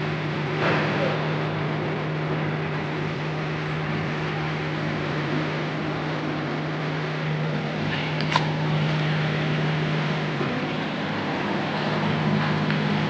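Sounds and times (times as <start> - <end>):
machine drone with hum and hiss: 0.0 - 13.0.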